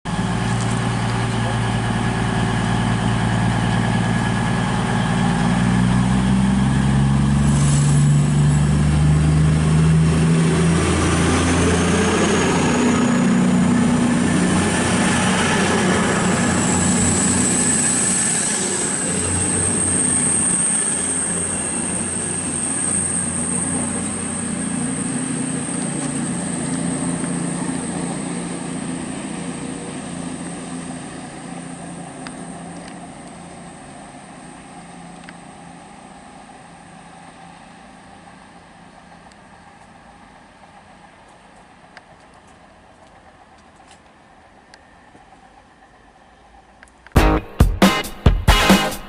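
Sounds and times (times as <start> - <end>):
steady high whine: 0.1 - 39.9
wheel and rail rumble: 0.1 - 47.2
train engine: 0.1 - 49.0.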